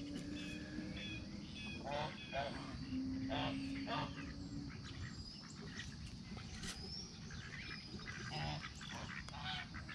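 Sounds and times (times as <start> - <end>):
poultry chirps and calls: 0.0 - 9.9.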